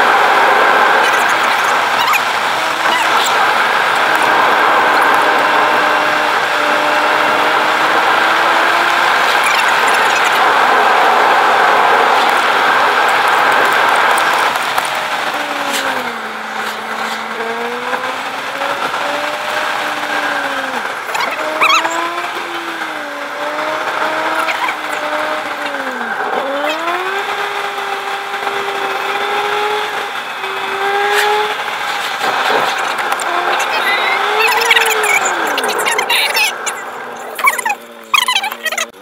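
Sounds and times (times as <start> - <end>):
car engine revving: 0.0 - 39.0
road and wind noise: 0.0 - 39.0.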